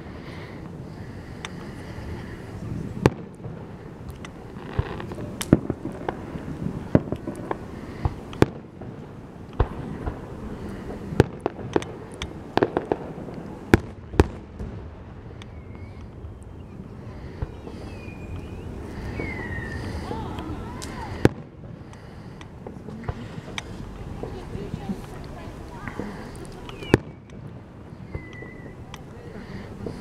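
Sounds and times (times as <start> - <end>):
firework shells bursting: 0.2 - 16.6, 17.2 - 30.0.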